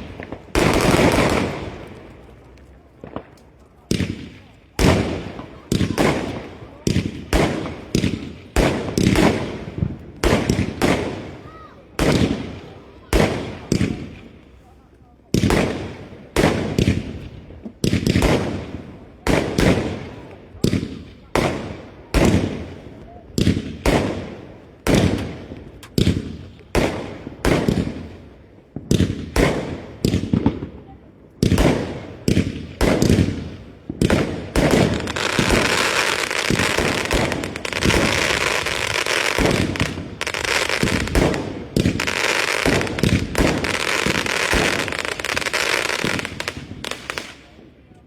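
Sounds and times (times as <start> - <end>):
fireworks bangs and crackling: 0.0 - 48.0.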